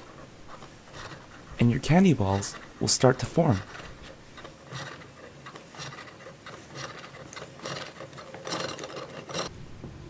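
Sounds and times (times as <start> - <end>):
plastic toy parts grinding and clicking: 0.9 - 9.5.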